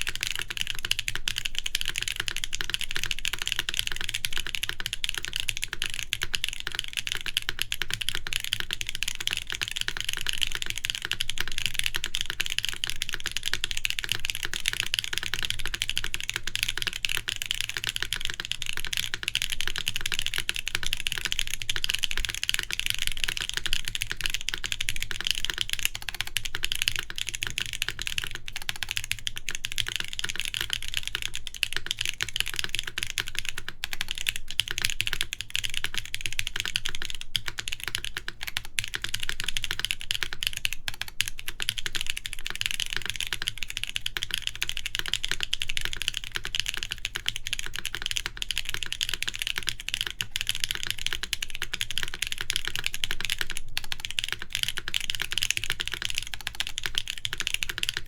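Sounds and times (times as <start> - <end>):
mechanical keyboard fast typing: 0.0 - 58.0.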